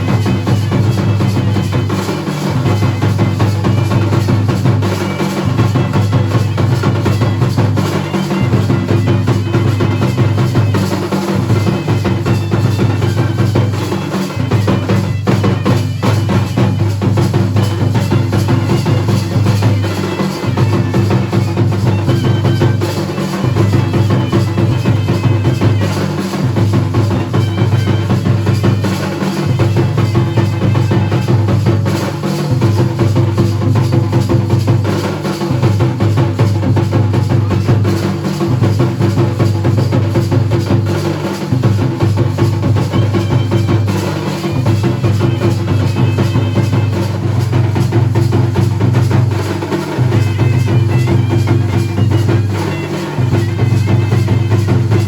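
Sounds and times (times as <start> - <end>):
drums beating fast: 0.0 - 55.0.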